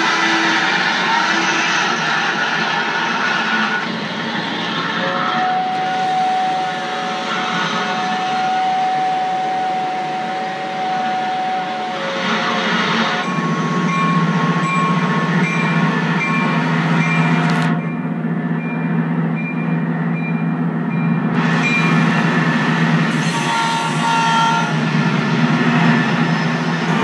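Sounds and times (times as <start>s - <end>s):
low train rumble: 0.0s - 27.0s
held steady tones: 3.7s - 27.0s.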